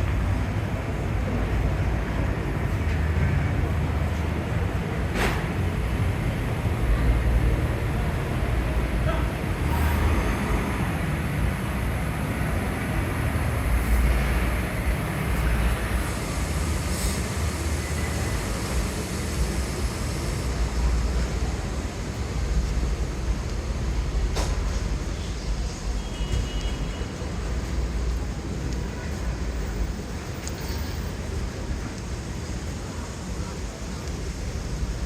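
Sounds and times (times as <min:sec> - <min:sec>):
rumble of passing vehicles: 0:00.0 - 0:35.0.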